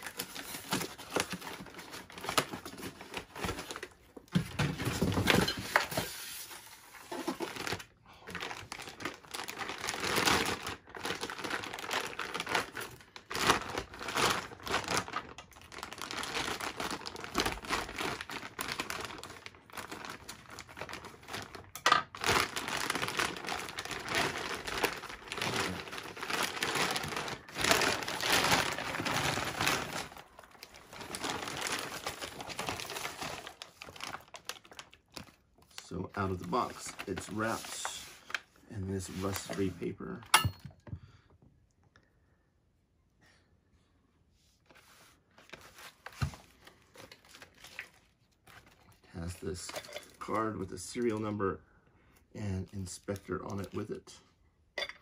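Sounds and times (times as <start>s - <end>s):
plastic wrapping crinkling: 0.0s - 40.3s, 44.7s - 51.3s.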